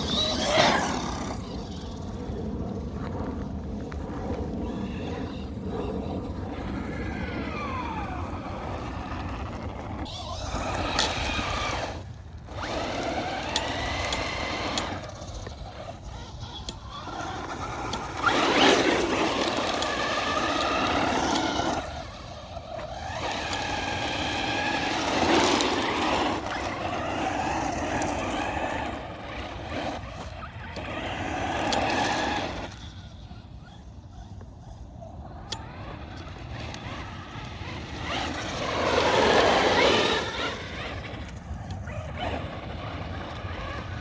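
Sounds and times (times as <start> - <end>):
electric motor whining: 0.0 - 2.3, 4.2 - 44.0.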